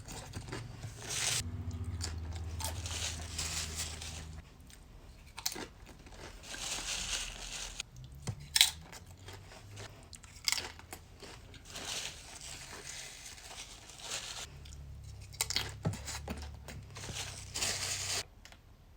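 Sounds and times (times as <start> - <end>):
crunchy food being chewed: 0.0 - 15.8.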